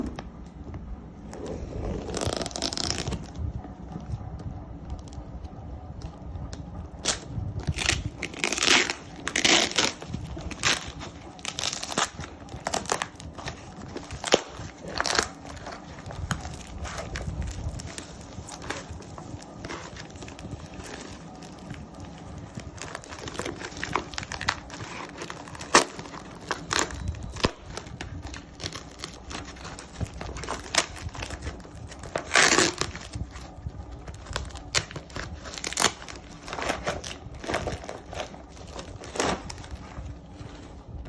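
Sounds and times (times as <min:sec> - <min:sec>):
cardboard and plastic rustling: 0:00.0 - 0:05.2, 0:06.0 - 0:41.0.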